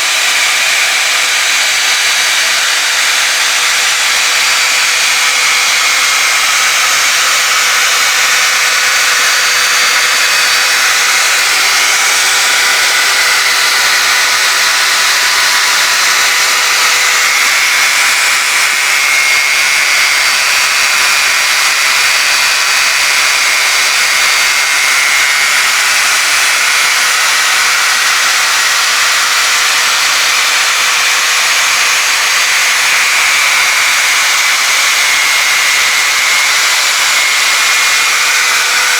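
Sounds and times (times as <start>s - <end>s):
lathe motor whine with hiss: 0.0s - 38.9s.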